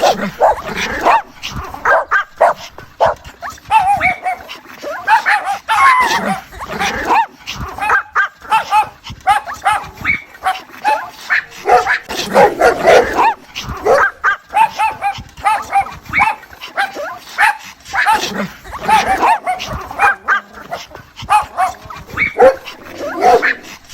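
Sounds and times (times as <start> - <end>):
dog whining and yipping: 0.0 - 6.4, 7.8 - 18.2, 18.8 - 23.9.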